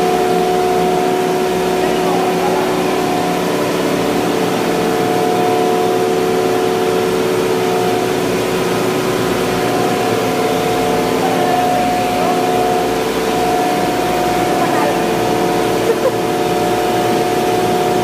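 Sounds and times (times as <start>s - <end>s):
machinery drone: 0.0s - 18.0s
steady whining tones: 0.0s - 18.0s.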